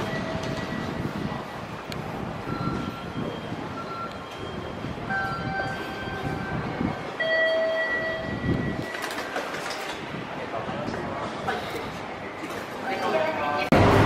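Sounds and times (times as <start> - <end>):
low rumble of station hall: 0.0 - 14.0.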